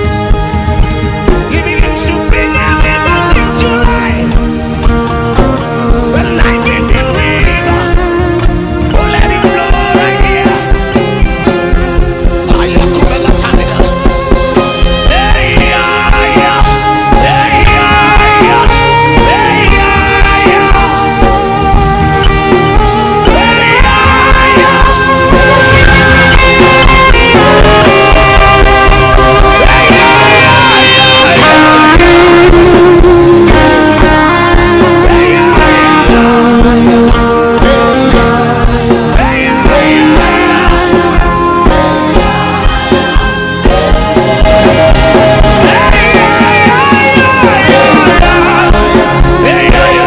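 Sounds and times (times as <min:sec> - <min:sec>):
live gospel band music: 0:00.0 - 0:50.0.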